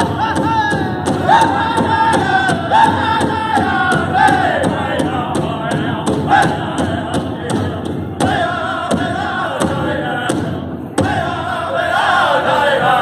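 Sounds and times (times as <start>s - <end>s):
group singing in high voices: 0.0s - 13.0s
steady beat on large drum: 0.0s - 13.0s.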